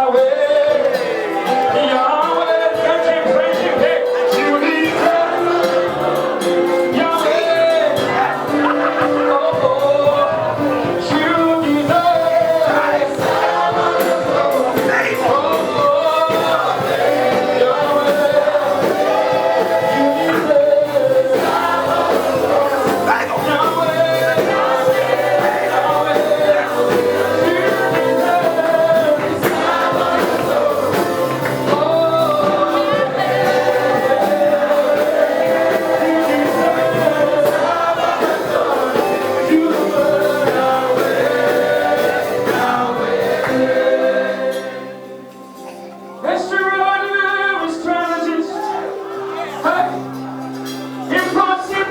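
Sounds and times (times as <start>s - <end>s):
gospel choir singing: 0.0s - 51.9s
instrumental accompaniment: 0.0s - 51.9s.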